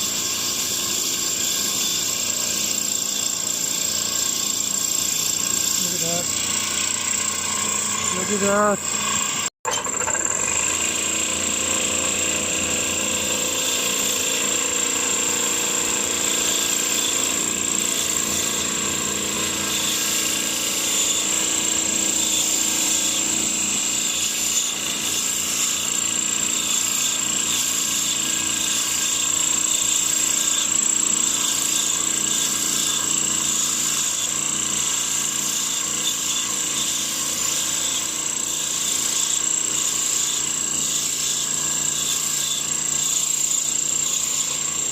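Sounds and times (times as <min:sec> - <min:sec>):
electric drill motor whining: 0:00.0 - 0:44.9.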